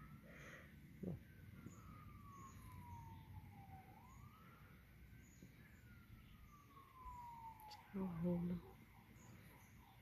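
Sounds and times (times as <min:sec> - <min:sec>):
ambulance siren wailing: 0:00.0 - 0:10.0.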